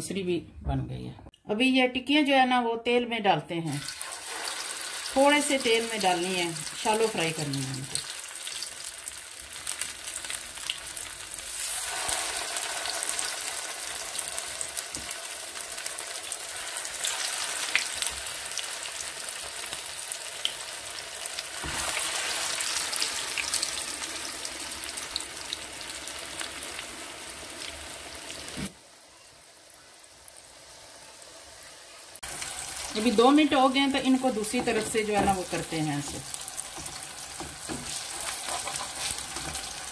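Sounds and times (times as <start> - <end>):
patties sizzling in oil: 3.7 - 39.9.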